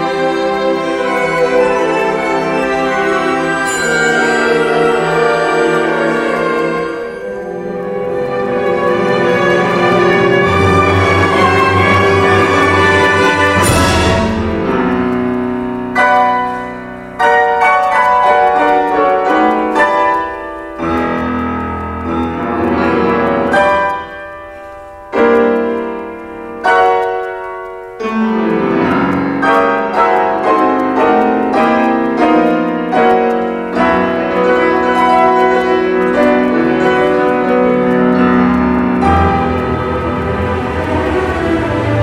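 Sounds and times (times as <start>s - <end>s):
classical piano music: 0.0s - 42.0s.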